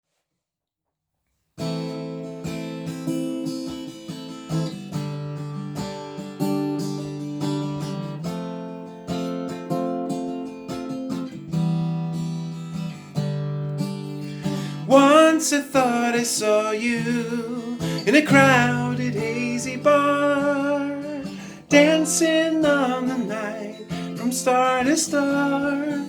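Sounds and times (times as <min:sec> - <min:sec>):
acoustic guitar strumming chords: 0:01.6 - 0:26.0.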